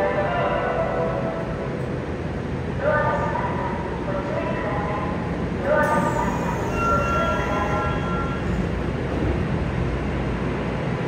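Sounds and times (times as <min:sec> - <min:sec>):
stopped train running noise: 0:00.0 - 0:11.0.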